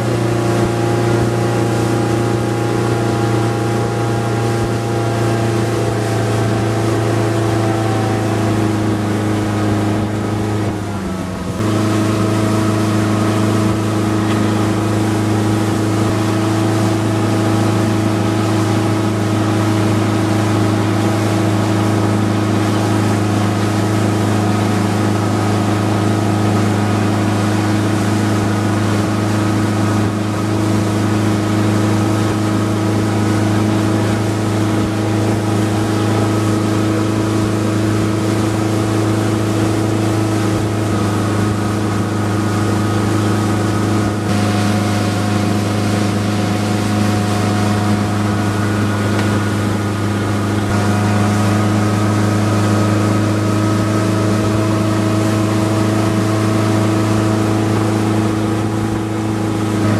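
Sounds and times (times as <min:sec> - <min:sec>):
boat engine droning: 0:00.0 - 0:59.9
water and hull noise: 0:00.0 - 0:59.9.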